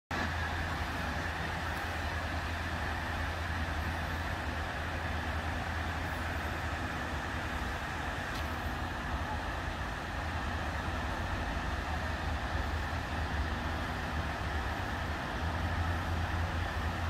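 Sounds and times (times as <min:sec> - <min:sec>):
waterfall rushing over rocks: 0:00.2 - 0:17.0.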